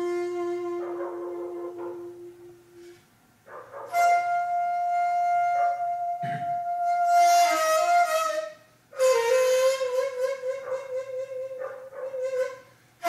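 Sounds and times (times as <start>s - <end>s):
bamboo flute playing held notes: 0.0s - 3.0s, 3.9s - 12.8s.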